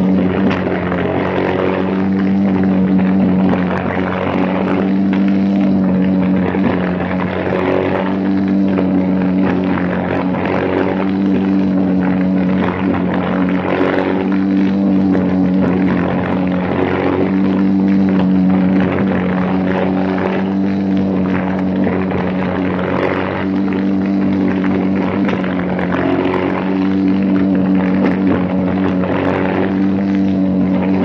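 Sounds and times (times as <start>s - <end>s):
kart engine at high revs: 0.0s - 31.0s.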